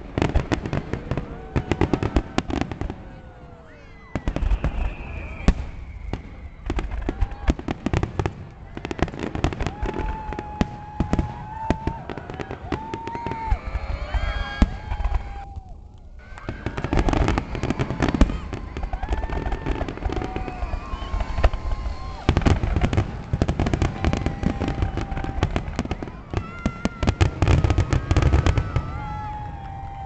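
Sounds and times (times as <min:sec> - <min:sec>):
fireworks bangs and booms: 0:00.0 - 0:30.0
fireworks crackling: 0:00.0 - 0:30.0
fireworks whistling: 0:00.0 - 0:30.0.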